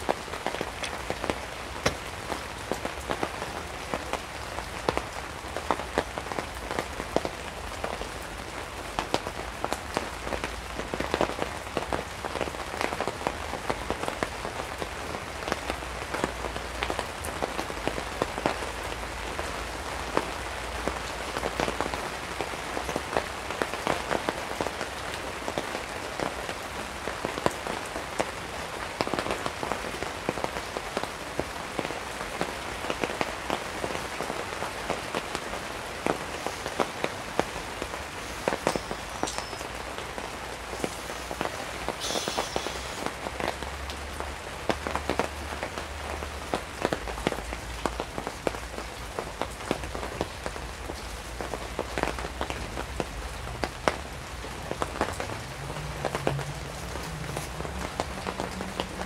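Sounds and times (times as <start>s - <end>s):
rain on a tarp and tent: 0.0s - 59.0s.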